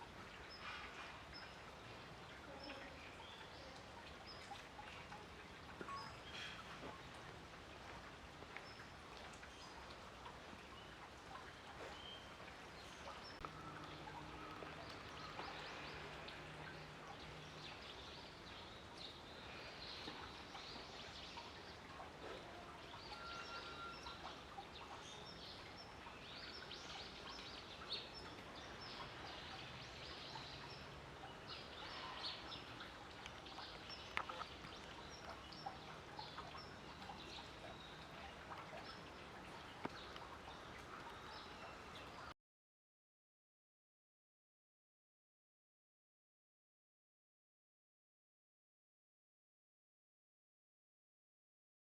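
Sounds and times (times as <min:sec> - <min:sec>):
outdoor background noise: 0:00.0 - 0:42.4.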